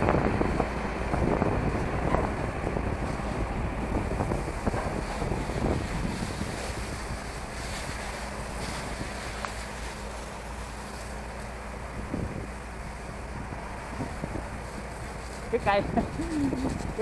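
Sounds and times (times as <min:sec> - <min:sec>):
fire hose water jet spraying: 0:00.0 - 0:17.0
wind buffeting microphone: 0:00.0 - 0:17.0.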